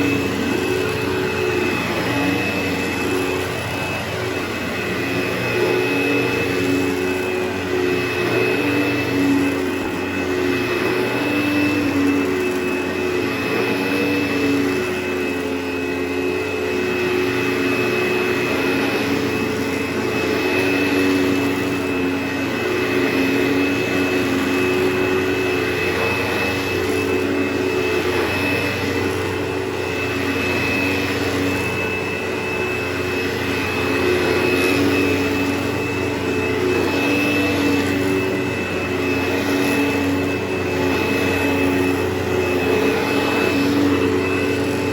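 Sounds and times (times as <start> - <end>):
vacuum cleaner whine: 0.0 - 44.9.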